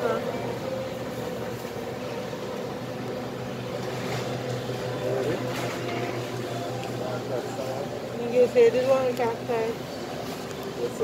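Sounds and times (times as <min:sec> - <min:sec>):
refrigerated display cases humming: 0:00.0 - 0:11.0.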